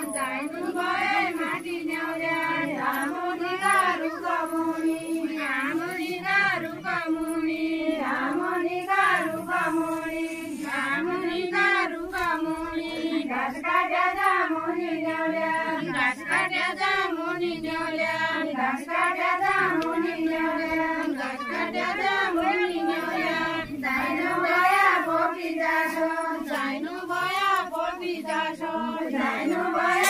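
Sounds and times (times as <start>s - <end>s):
women singing together: 0.0s - 30.0s.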